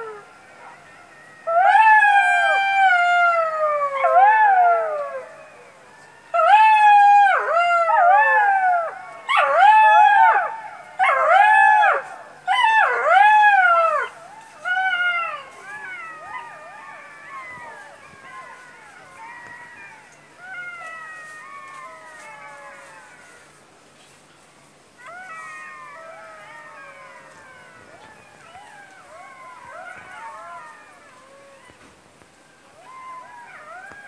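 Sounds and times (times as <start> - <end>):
jackals howling: 0.0 - 23.6, 25.0 - 34.0.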